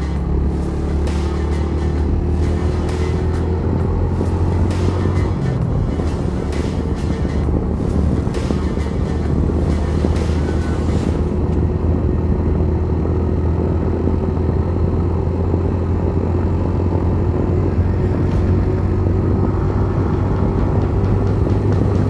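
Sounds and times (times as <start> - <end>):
motorcycle engine humming: 0.0 - 22.0.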